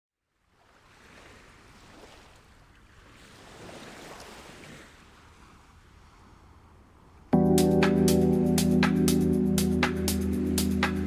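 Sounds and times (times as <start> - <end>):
faint sea waves washing: 0.8 - 11.0.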